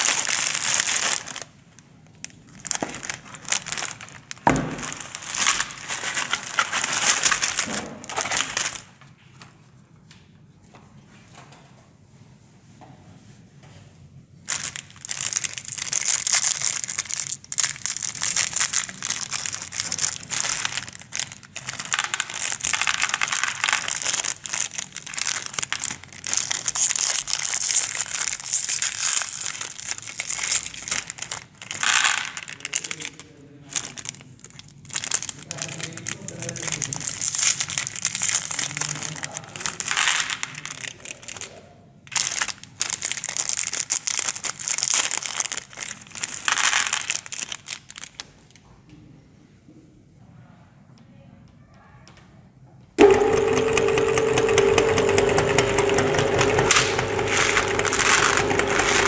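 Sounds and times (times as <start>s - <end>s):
candy wrappers crinkling and tearing: 0.0s - 9.1s, 14.4s - 48.6s, 53.0s - 59.0s.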